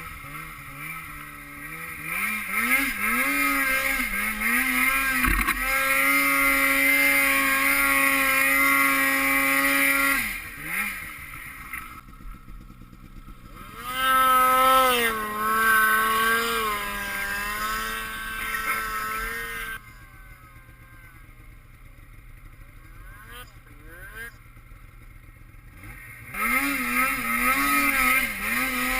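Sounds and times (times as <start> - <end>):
snowmobile engine revving: 0.0 - 28.9.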